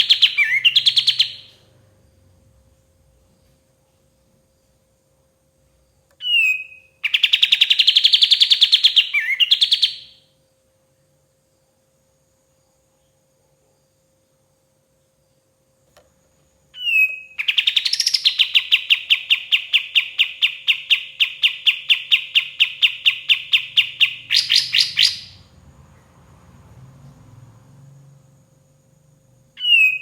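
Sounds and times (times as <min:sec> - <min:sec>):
songbird chirping: 0:00.0 - 0:04.8, 0:05.6 - 0:10.3, 0:15.0 - 0:30.0.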